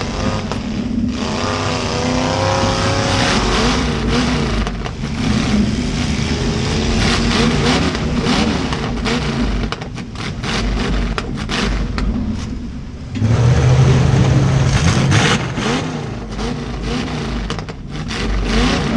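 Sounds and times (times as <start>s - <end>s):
car engines revving hard: 0.0s - 18.9s
car impact bangs: 2.4s - 18.9s.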